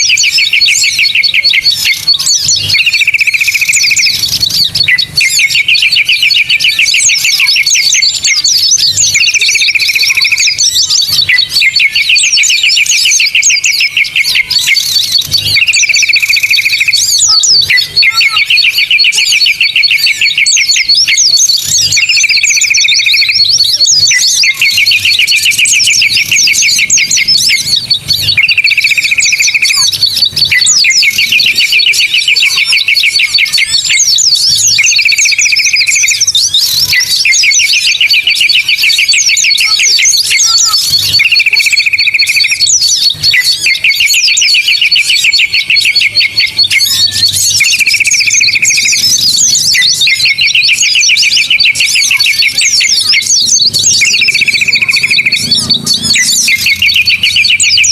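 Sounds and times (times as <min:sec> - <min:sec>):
buzzy bird trills: 0:00.0 - 0:57.9
high chatter of chirps: 0:00.0 - 0:57.9.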